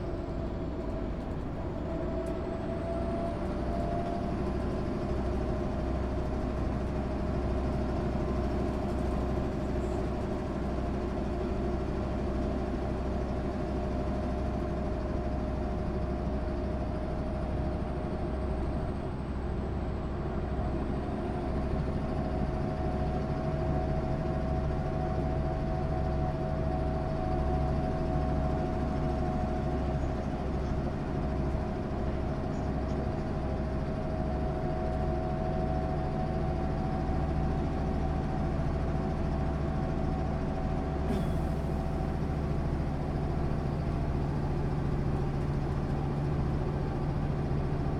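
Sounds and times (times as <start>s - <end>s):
bus engine rumble with whine: 0.0s - 47.9s.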